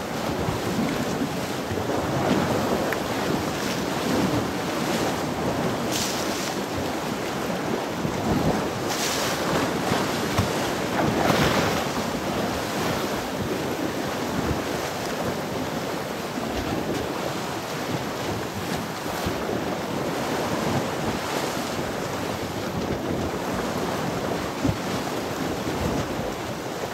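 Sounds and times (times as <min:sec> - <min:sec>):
sea waves breaking: 0:00.0 - 0:26.9
wind buffeting microphone: 0:00.0 - 0:26.9.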